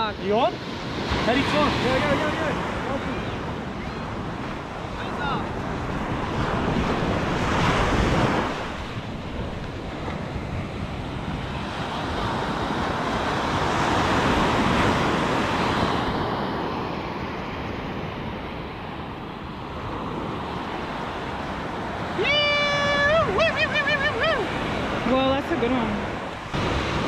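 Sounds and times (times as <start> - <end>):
ocean surf breaking: 0.0 - 27.0
wind buffeting microphone: 0.7 - 27.0.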